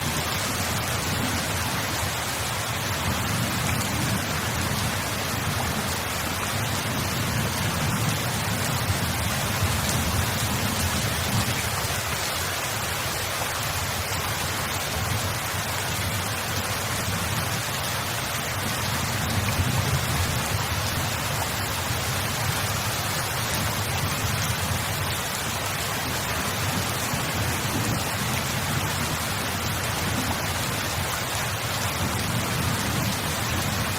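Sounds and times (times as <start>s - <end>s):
steady rain pouring: 0.0s - 33.9s.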